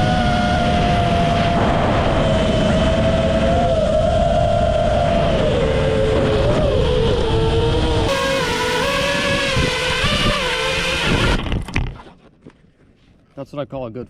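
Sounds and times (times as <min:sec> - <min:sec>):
wind rush: 0:00.0 - 0:11.9
drone propellers whining: 0:00.0 - 0:12.2.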